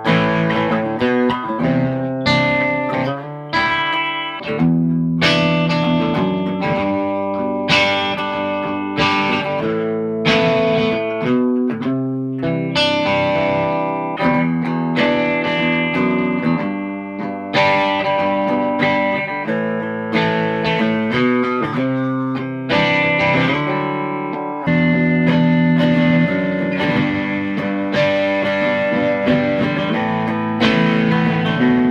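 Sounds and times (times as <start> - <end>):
overdriven electric guitar chords: 0.0 - 31.9.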